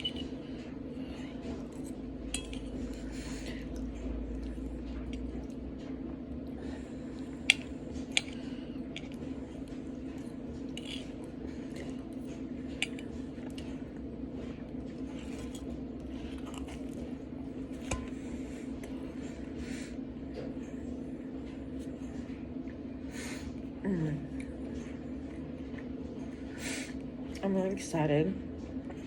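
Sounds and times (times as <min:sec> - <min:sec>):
soft chewing: 0:00.0 - 0:27.4
steady low hum: 0:00.0 - 0:29.0.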